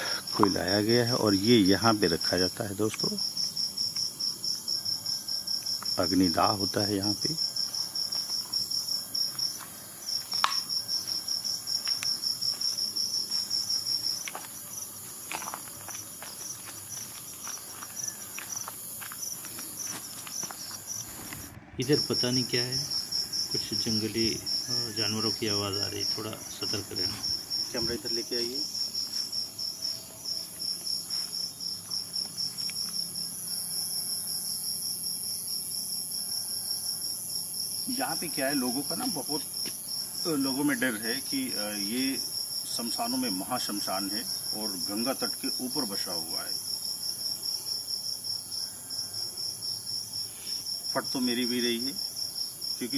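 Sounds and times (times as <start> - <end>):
cricket chirping: 0.0 - 52.9
high-pitched insect trill: 0.0 - 52.9.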